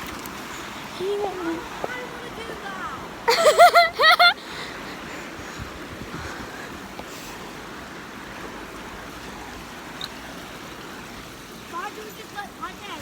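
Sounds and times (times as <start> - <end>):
river flowing: 0.0 - 13.0.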